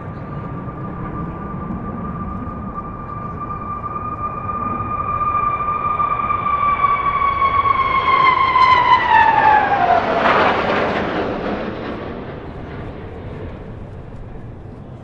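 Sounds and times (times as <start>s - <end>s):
military aircraft passing overhead: 0.0s - 15.0s.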